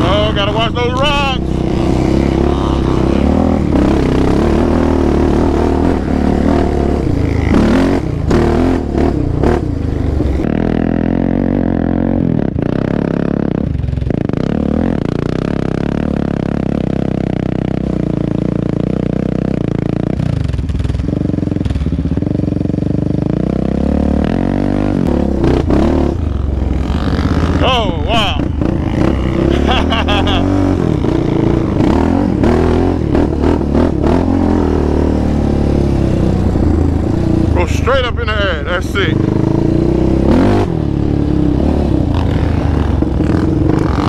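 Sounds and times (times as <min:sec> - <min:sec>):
atv engine running: 0:00.0 - 0:44.0
dirt bike passing: 0:00.0 - 0:44.0.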